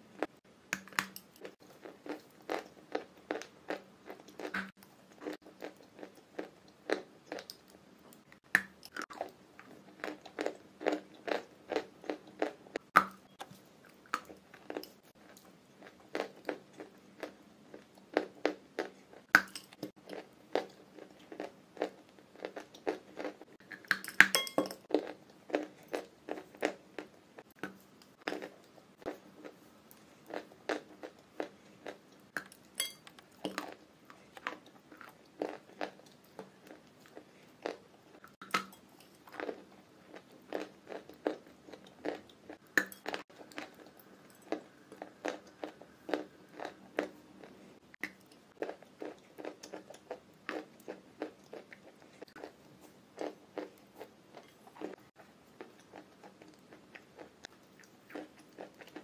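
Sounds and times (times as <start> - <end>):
chewing with soft crunches: 0.2 - 24.0, 24.8 - 59.0.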